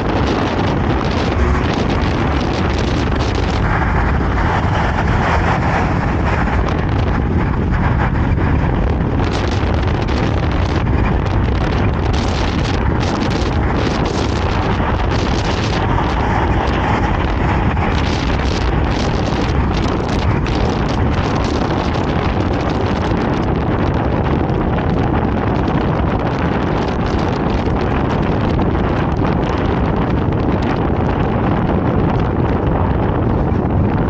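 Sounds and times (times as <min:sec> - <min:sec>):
road and traffic noise: 0:00.0 - 0:34.0
wind buffeting microphone: 0:00.0 - 0:34.0.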